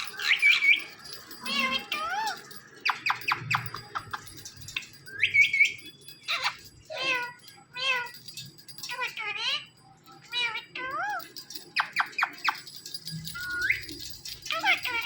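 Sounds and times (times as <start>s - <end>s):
parakeet calling: 0.0s - 12.7s, 13.3s - 15.0s.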